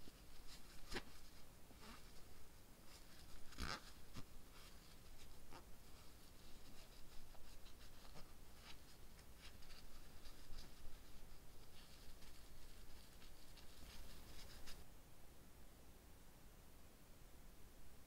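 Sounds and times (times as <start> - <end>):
wipe scratching a fingernail: 0.0 - 14.8.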